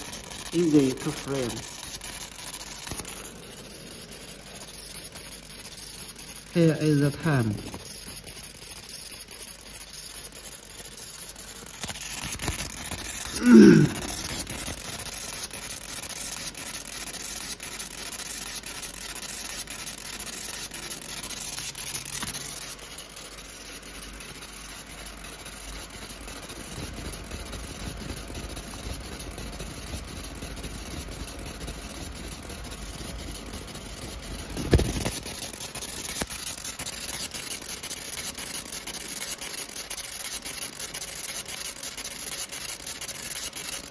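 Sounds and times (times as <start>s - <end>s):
laser cutting metal hiss: 0.0s - 43.9s.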